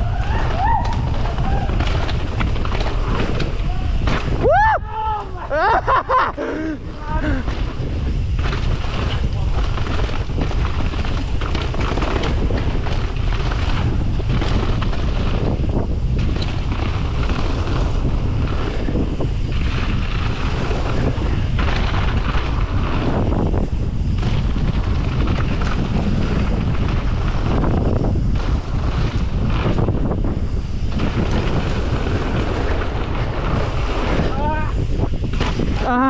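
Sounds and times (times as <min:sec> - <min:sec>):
bike knocks and rattles: 0:00.0 - 0:36.0
tyres rolling on gravel trail: 0:00.0 - 0:36.0
wind buffeting microphone: 0:00.0 - 0:36.0.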